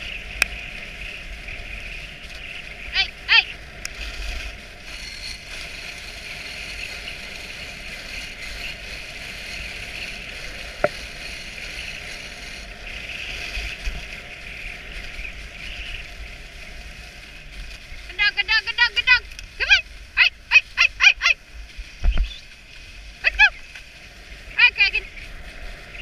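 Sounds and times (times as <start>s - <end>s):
sled gliding over snow: 0.0s - 26.0s.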